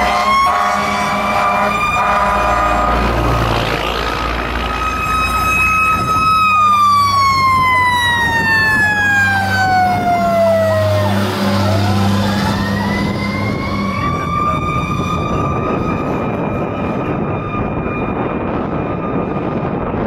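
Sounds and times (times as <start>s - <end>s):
fast warbling siren: 0.0s - 20.0s
high winding siren: 0.0s - 20.0s.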